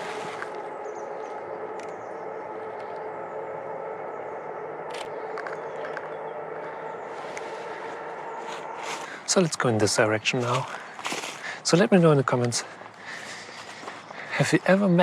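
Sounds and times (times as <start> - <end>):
faint hum: 0.0 - 15.0
outdoor background noise: 0.0 - 15.0.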